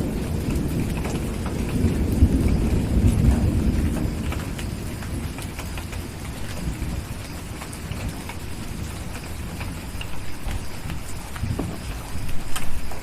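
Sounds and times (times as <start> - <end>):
distant thunder rumble: 0.0 - 13.0
steady rain: 0.0 - 13.0
wood fire crackling: 0.0 - 13.0.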